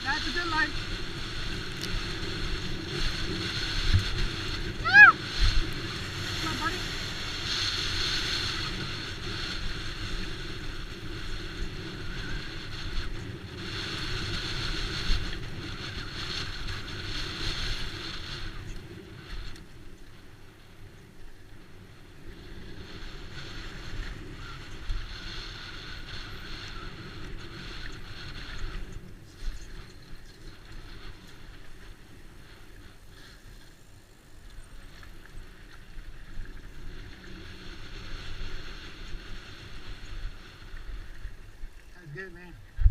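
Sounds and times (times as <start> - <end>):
bike tyre rumble: 0.0 - 42.9
wind noise on microphone: 0.0 - 42.9.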